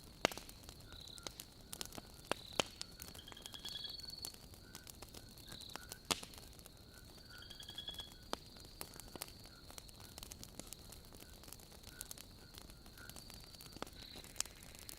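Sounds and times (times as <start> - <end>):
wood fire crackling and popping: 0.0 - 14.9
night chorus trilling: 0.8 - 14.6.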